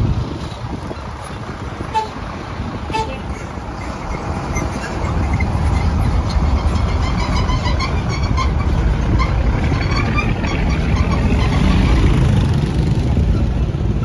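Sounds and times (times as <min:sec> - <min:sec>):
bus engine running low: 0:00.0 - 0:14.0
bus rolling over cobblestones: 0:00.0 - 0:14.0.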